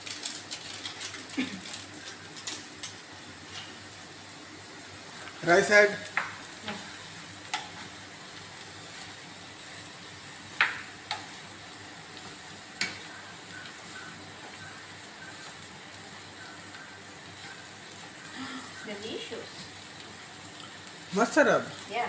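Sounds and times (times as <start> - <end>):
rice sizzling in frying pan: 0.0 - 22.0.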